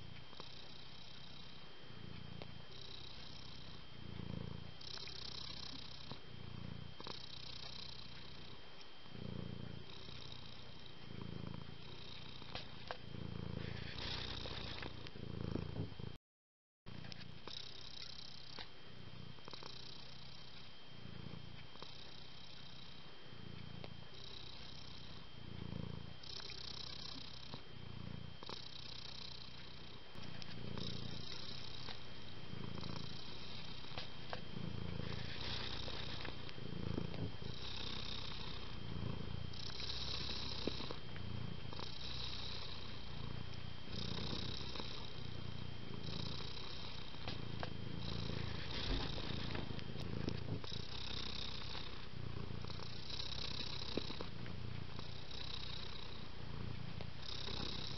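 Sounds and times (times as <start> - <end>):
cat purring: 0.0 - 16.2, 16.9 - 57.9.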